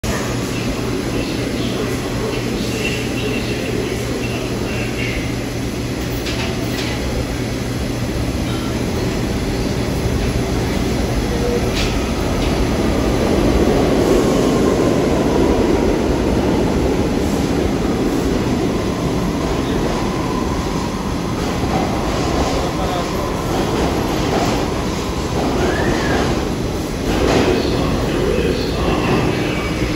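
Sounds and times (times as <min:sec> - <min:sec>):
subway train wheels rumbling: 0:00.0 - 0:29.9.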